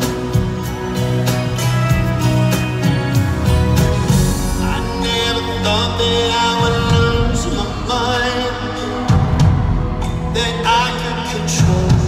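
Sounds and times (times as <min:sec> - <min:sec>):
instrumental pop ballad over loudspeakers: 0:00.0 - 0:12.0.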